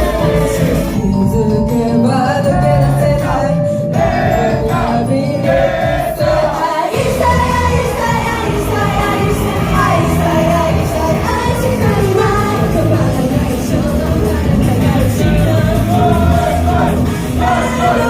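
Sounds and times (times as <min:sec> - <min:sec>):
person singing: 0:00.0 - 0:18.0
pop song over loudspeakers: 0:00.0 - 0:18.0.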